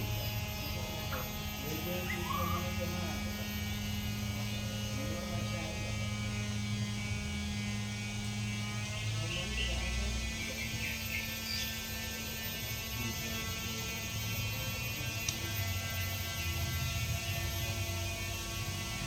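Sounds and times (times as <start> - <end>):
steady hum with overtones: 0.0 - 19.0.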